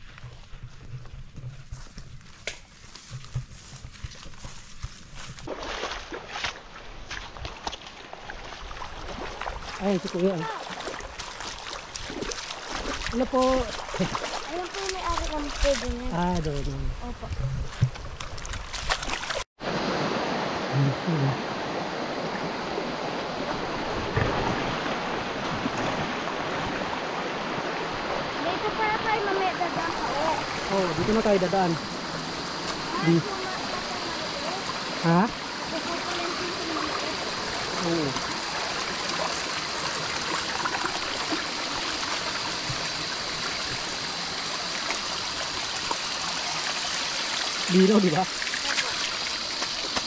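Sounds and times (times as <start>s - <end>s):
stream running over rocks: 0.0s - 50.0s.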